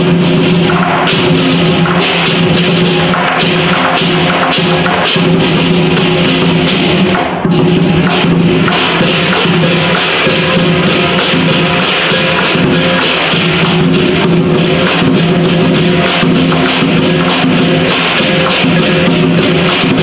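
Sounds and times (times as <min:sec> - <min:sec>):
clashing cymbals: 0:00.0 - 0:20.0
drum beat: 0:00.0 - 0:20.0
gong: 0:00.0 - 0:20.0.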